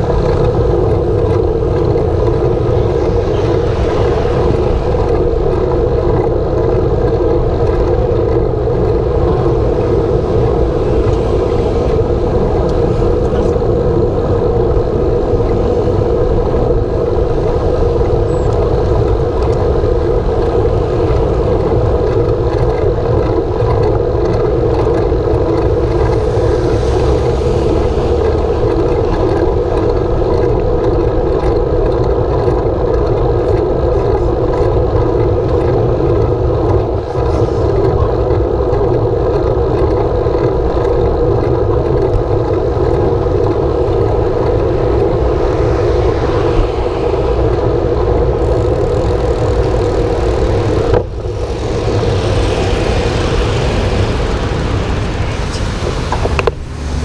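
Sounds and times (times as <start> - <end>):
bike tyres rolling on asphalt: 0.0 - 57.0.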